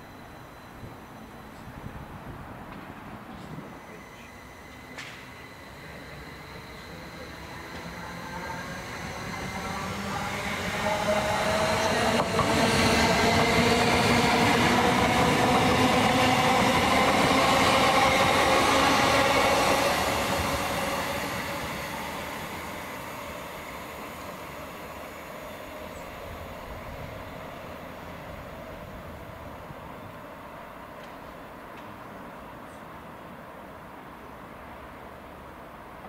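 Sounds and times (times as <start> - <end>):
electric train passing: 0.0 - 36.0
whine of steady tones: 0.0 - 36.0.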